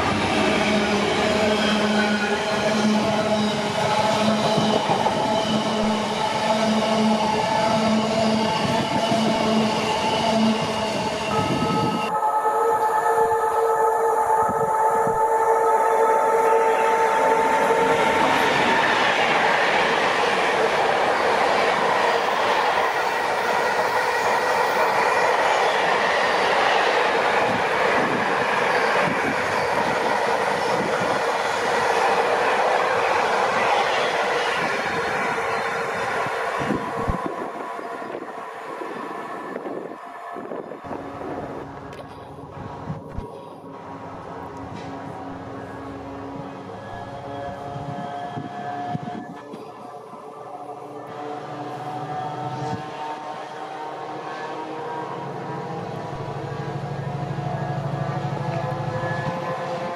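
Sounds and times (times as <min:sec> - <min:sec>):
train wheels rumbling on rails: 0:00.0 - 0:12.1, 0:16.7 - 0:59.9.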